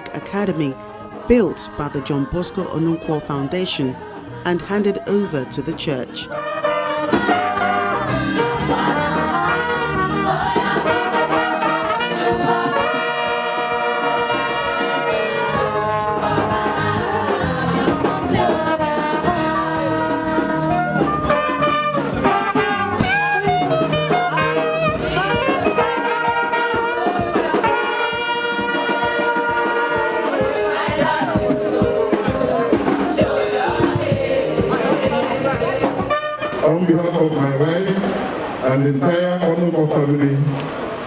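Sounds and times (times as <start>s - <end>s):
brass band playing: 0.0s - 41.0s.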